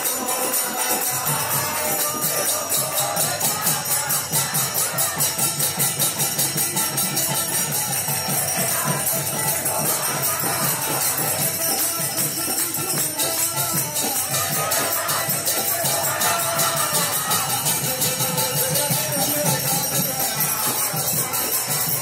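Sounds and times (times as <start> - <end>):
hand cymbals jingling: 0.0 - 22.0
voices singing: 0.0 - 22.0.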